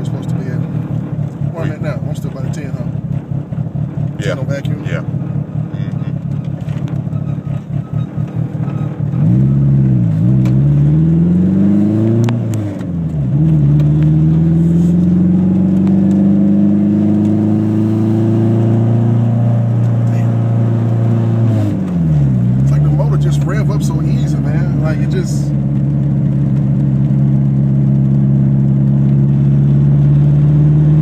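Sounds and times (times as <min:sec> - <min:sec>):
turbocharged car engine accelerating: 0:00.0 - 0:31.0.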